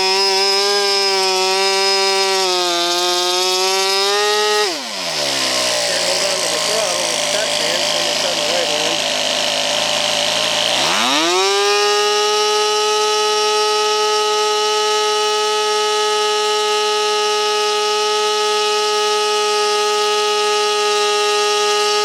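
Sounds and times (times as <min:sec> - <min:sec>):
model engine buzzing: 0:00.0 - 0:22.0.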